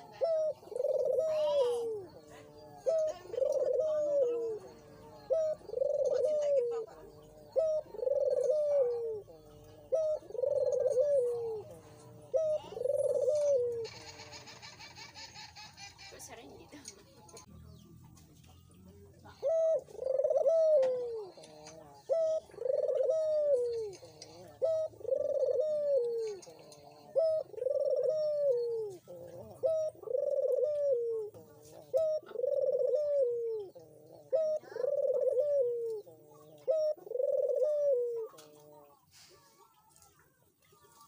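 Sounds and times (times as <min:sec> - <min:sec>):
dove cooing: 0:00.0 - 0:17.8, 0:18.6 - 0:41.0.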